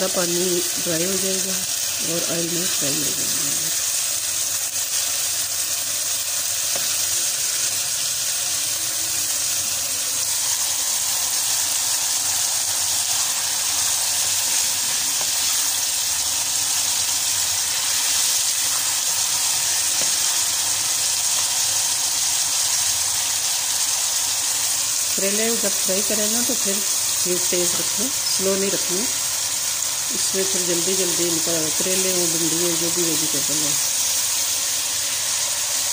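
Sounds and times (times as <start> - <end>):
vegetables sizzling in hot oil: 0.0 - 35.9.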